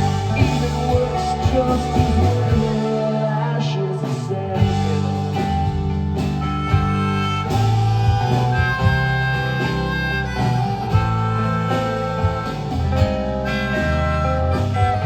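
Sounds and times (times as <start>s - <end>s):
bass: 0.0s - 15.0s
drum beats: 0.0s - 15.0s
lead instrument melody: 0.0s - 15.0s
strummed guitar: 0.0s - 15.0s.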